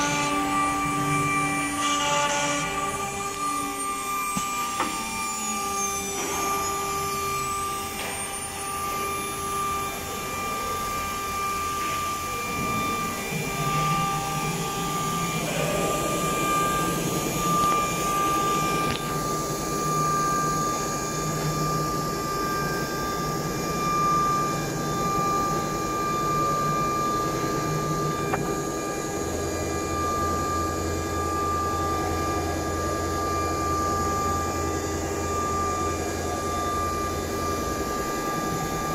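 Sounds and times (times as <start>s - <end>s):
motors humming: 0.0s - 38.9s
router spindle whine: 0.0s - 38.9s.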